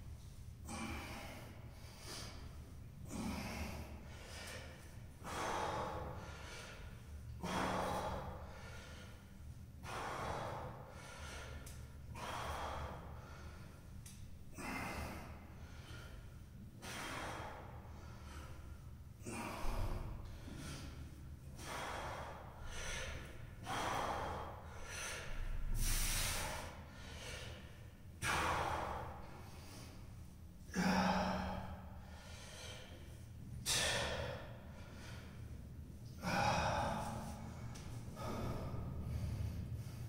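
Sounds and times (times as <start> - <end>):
man breathing hard: 0.2 - 40.0.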